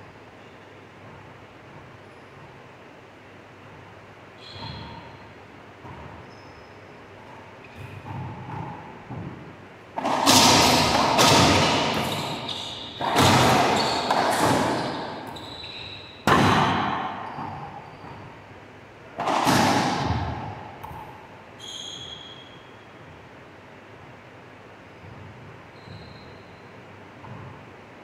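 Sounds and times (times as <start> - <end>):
sneakers squeaking on floor: 0.3 - 2.8, 4.4 - 23.3, 24.7 - 27.7.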